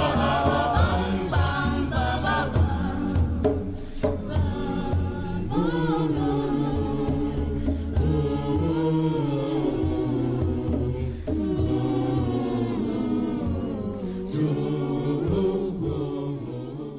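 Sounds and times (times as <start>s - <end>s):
choir singing in harmony: 0.0s - 16.9s.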